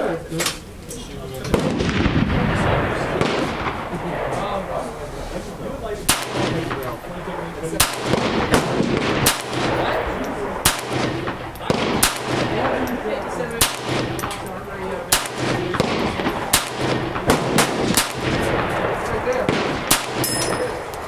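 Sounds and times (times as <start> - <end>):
pistol shots: 1.5 - 4.8, 6.1 - 21.0.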